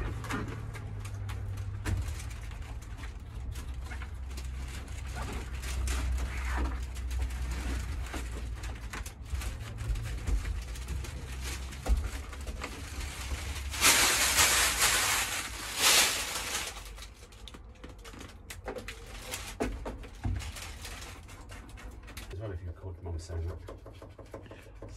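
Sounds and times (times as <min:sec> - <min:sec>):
hands rustling foil sheet: 0:00.0 - 0:22.3
scraping crinkling rustle: 0:00.0 - 0:22.4.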